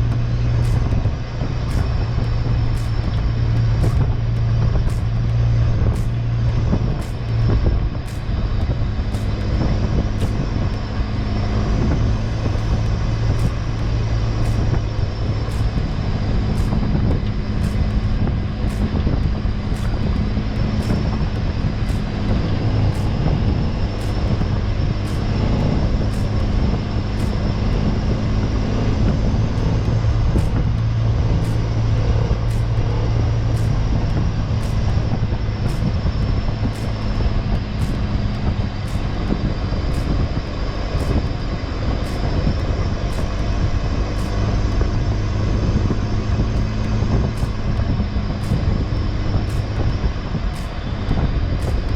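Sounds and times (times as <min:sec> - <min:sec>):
vehicle engine and road drone: 0:00.0 - 0:51.9.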